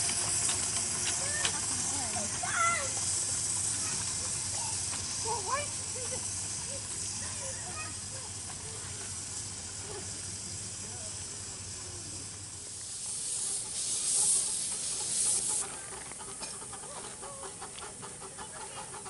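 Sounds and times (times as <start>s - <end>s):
high steam hiss: 0.0s - 19.0s
steady low steam hiss: 0.0s - 19.0s.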